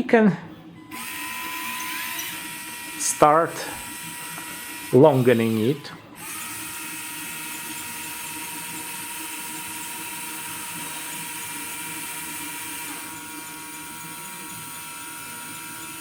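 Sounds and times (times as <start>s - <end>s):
electric motors whining: 0.8s - 16.0s.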